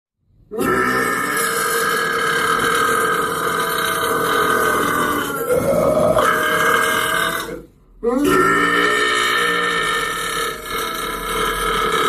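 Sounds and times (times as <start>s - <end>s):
person burping: 0.5s - 12.0s.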